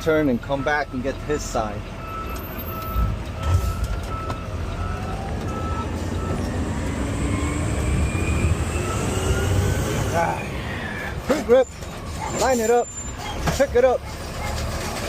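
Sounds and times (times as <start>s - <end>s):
truck reverse alarm beeping: 0.0s - 14.4s
diesel engine rumble: 0.0s - 15.0s.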